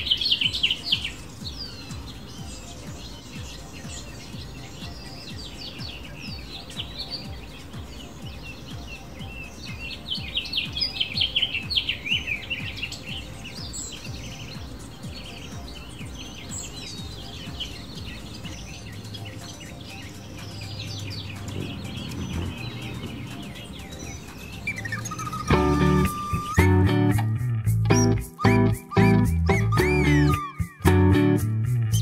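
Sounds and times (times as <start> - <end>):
bird chirps: 0.0 - 32.0
finch warbling song: 0.0 - 32.0.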